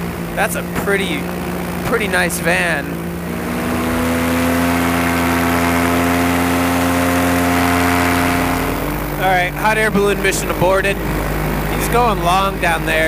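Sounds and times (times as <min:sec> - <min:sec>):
paramotor engine and propeller: 0:00.0 - 0:13.0.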